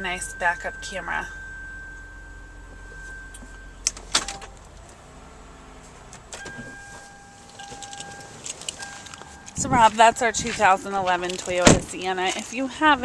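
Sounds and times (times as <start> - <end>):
electronic warning tone: 0.0 - 5.8, 6.4 - 12.2
low hum: 0.0 - 13.0.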